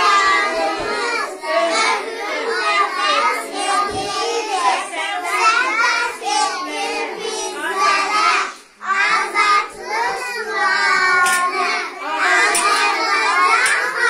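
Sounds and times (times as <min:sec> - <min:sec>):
children singing in unison: 0:00.0 - 0:14.0.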